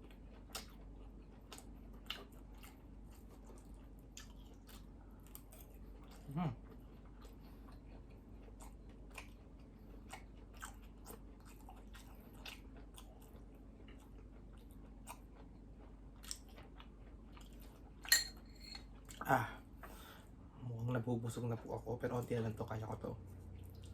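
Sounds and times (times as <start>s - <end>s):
person chewing food: 0.0s - 19.2s, 23.2s - 23.9s.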